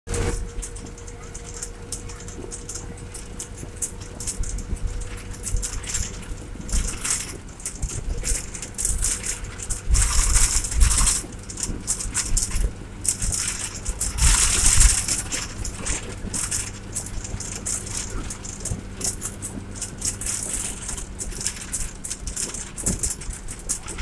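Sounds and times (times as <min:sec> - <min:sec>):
bus body rattling: 0:00.1 - 0:24.0
bus engine drone: 0:00.1 - 0:24.0.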